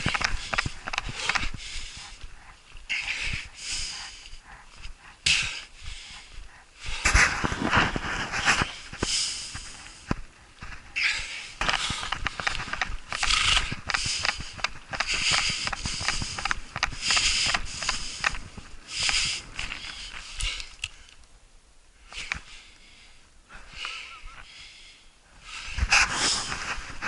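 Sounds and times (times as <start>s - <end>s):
footsteps crunching in snow: 0.0s - 20.8s, 25.6s - 27.0s
man breathing heavily: 0.0s - 21.2s, 21.9s - 27.0s.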